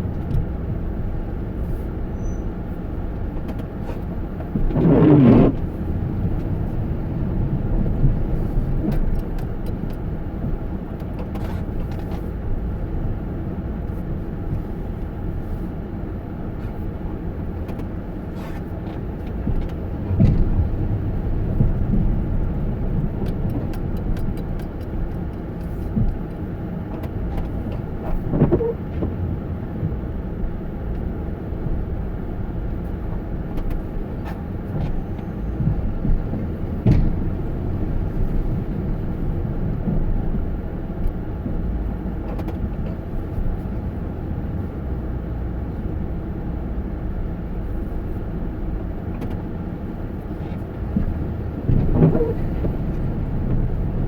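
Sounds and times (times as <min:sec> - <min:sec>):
motor vehicle rumble: 0:00.0 - 0:54.0.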